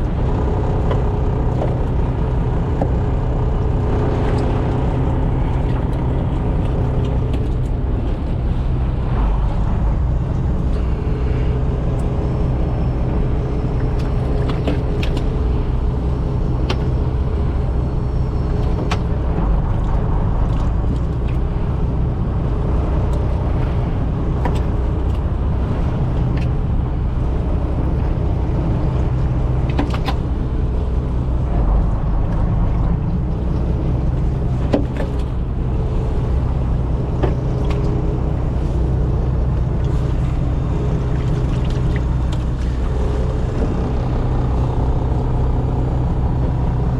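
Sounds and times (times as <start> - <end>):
engine droning: 0.0 - 46.9.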